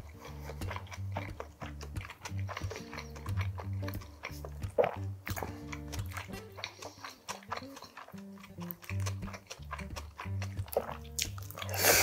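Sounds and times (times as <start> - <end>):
background music with low notes: 0.0 - 12.0
wet chewing of food: 0.0 - 12.0.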